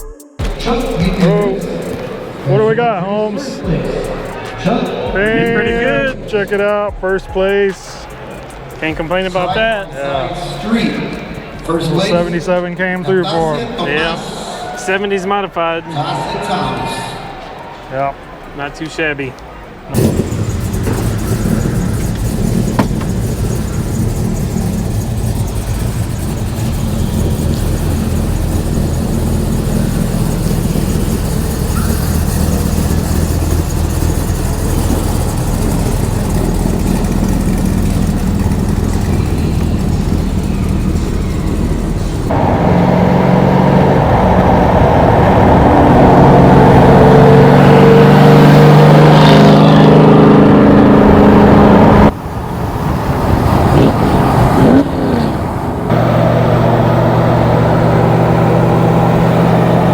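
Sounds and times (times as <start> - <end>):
truck engine rumbling: 0.0 - 16.5, 17.2 - 59.9.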